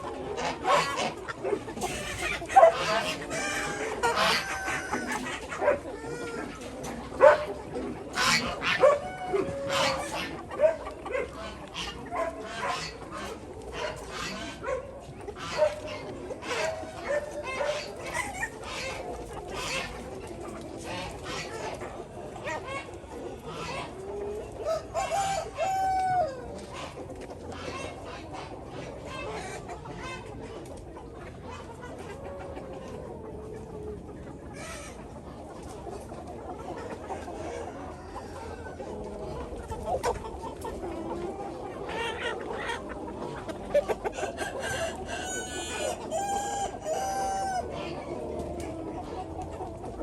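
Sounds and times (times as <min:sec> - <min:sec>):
hens clucking: 0:00.0 - 0:50.0.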